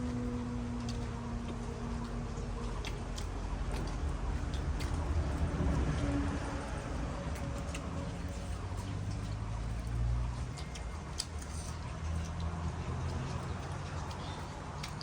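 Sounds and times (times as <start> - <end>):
low steady hum: 0.0 - 15.0
wet chewing noises: 0.0 - 15.0.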